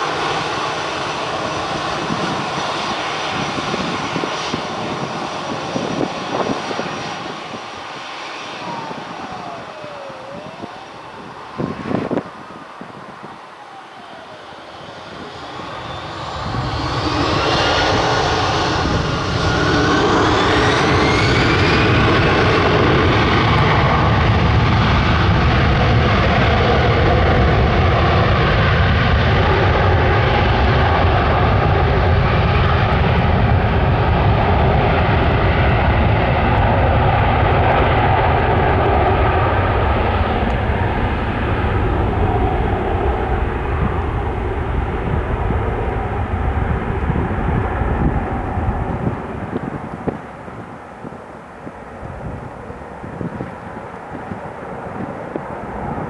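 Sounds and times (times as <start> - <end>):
jet engines spooling up and roaring: 0.0 - 56.0.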